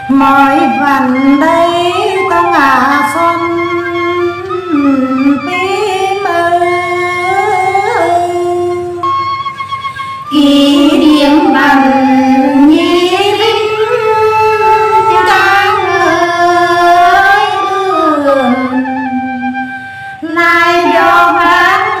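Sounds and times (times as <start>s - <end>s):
woman singing folk song: 0.1s - 9.0s, 10.3s - 18.8s, 20.2s - 22.0s.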